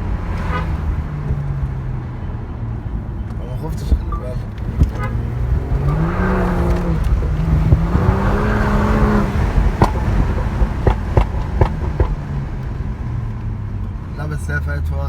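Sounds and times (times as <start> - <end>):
exhaust pops and crackles: 0.0 - 2.2, 3.0 - 14.6
car engine accelerating: 0.0 - 15.0.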